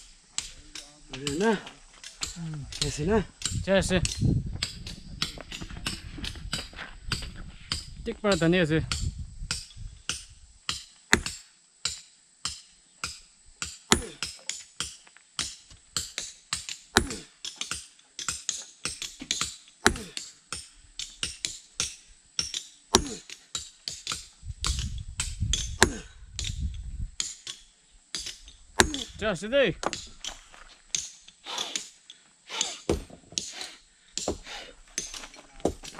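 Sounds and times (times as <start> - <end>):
sharp knocks with ringing: 0.4 - 29.2, 32.7 - 33.5, 34.2 - 35.9.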